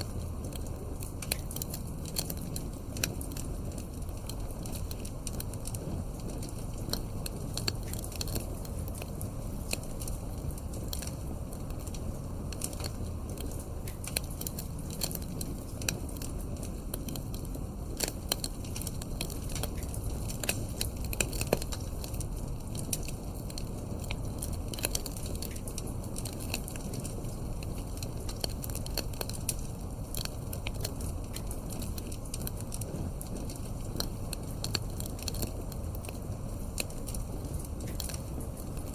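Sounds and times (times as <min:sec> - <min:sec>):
fire crackling and popping: 0:00.0 - 0:38.9
fire flames rumbling: 0:00.0 - 0:38.9.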